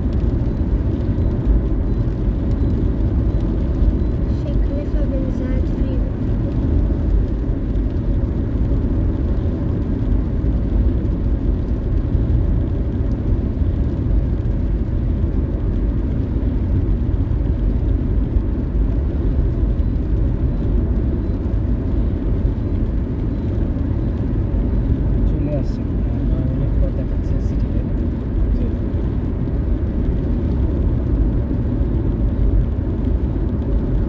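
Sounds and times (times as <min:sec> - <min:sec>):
car tyres and engine rumble: 0:00.0 - 0:34.0.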